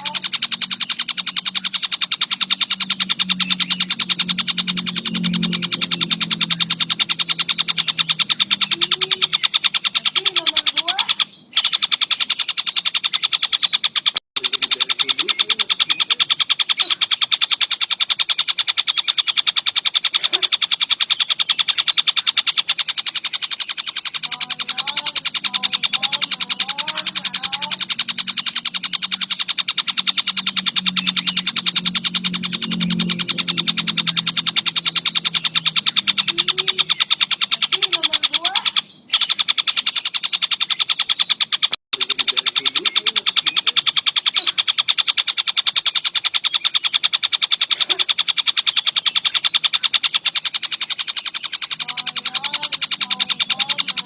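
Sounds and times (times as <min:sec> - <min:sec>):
faint low wavering bird calls: 0:00.0 - 0:54.0
kingfisher rattling trill: 0:00.0 - 0:54.0.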